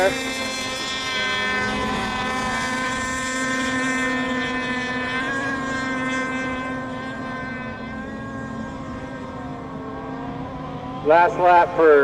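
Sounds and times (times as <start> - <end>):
model boat engines buzzing: 0.0 - 12.0.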